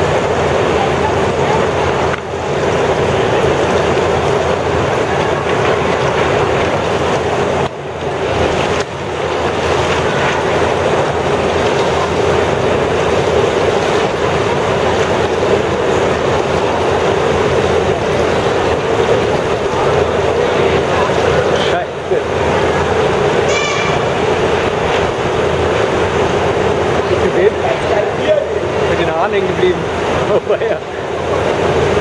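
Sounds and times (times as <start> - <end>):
large fans blowing air: 0.0 - 32.0.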